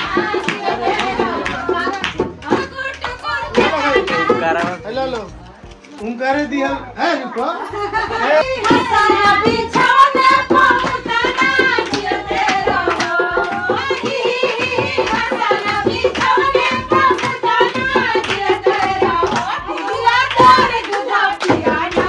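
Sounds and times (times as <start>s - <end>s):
women singing together: 0.0s - 4.8s, 7.4s - 22.0s
hand drum beats: 0.0s - 4.9s, 8.6s - 22.0s
hand clapping: 0.0s - 5.3s, 8.6s - 22.0s.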